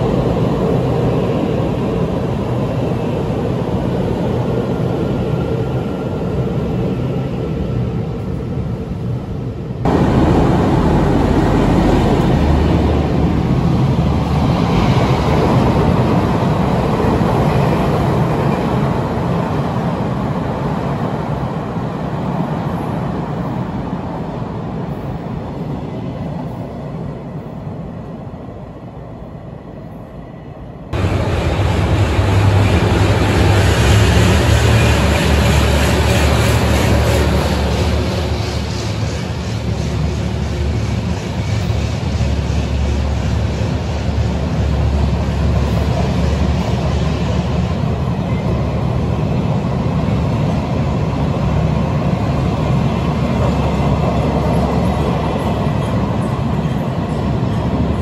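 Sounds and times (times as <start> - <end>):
electric train rumbling: 0.0 - 58.0
freight train passing: 0.0 - 58.0.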